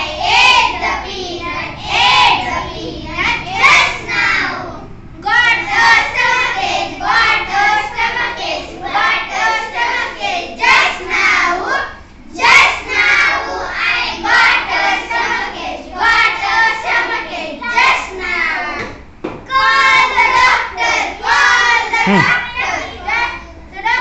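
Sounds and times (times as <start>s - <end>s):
children singing in unison: 0.0s - 11.8s, 12.4s - 18.8s, 19.5s - 23.0s.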